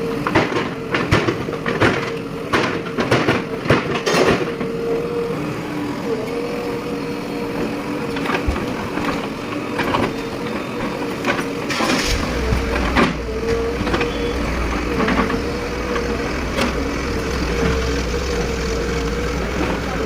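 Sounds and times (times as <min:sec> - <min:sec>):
diesel engine running with whine: 0:00.0 - 0:20.0.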